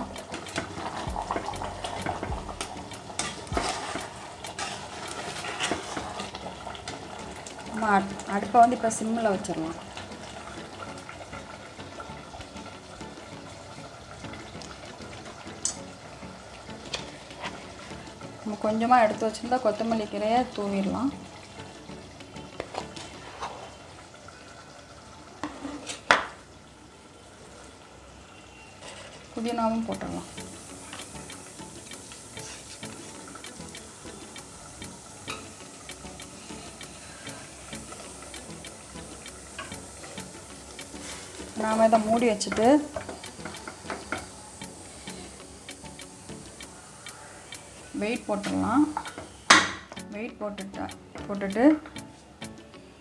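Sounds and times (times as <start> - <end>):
rice and water bubbling in a pot: 0.0 - 53.0.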